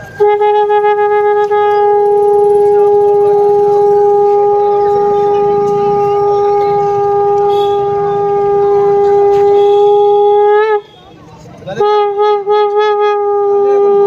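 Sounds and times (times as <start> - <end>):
conch shell blown: 0.0 - 14.0.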